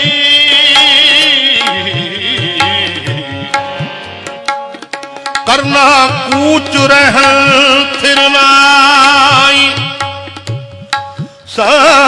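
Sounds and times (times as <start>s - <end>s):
harmonium: 0.0s - 12.0s
tabla: 0.0s - 12.0s.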